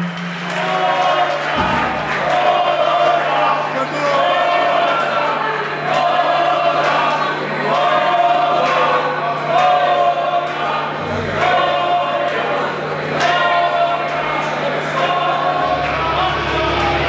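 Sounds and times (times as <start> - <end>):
group of voices singing: 0.3 - 17.0.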